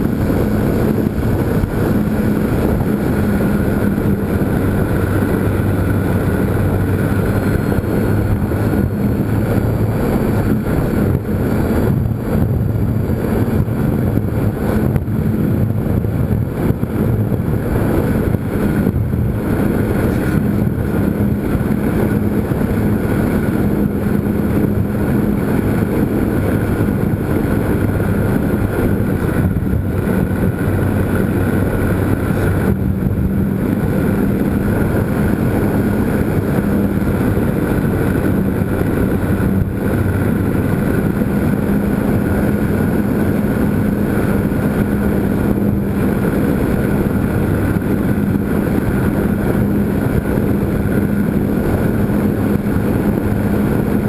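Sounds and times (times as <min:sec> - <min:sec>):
model airplane motor drone: 0:00.0 - 0:54.0.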